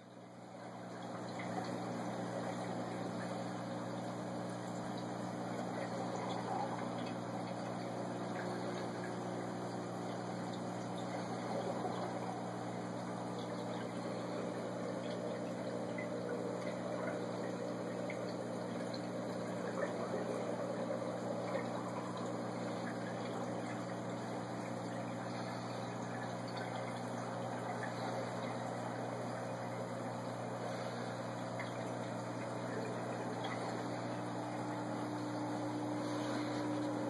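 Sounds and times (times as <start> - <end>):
low electric hum: 0.0 - 37.0
water trickling: 0.0 - 37.0.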